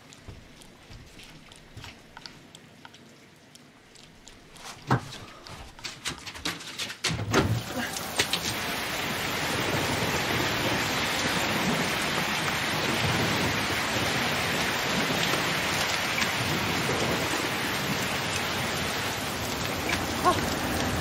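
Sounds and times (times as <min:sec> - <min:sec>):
rain splashing on hard surfaces: 0:00.0 - 0:21.0.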